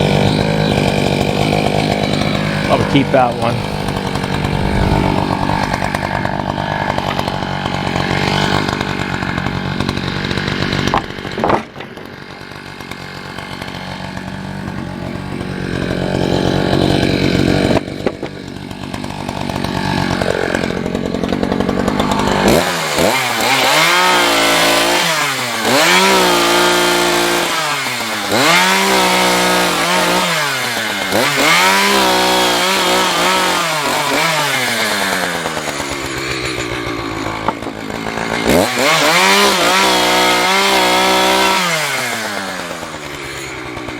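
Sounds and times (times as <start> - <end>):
gas engine saw cutting wood: 0.0 - 43.9.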